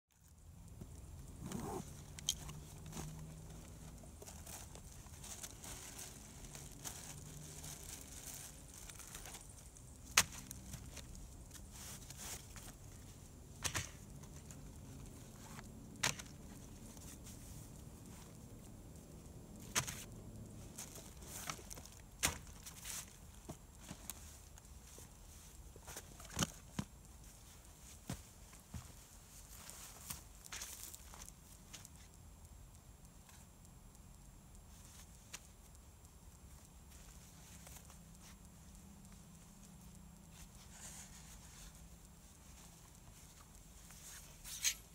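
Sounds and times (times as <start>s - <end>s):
rustling of canvas and plastic: 0.1s - 32.2s, 36.4s - 44.9s.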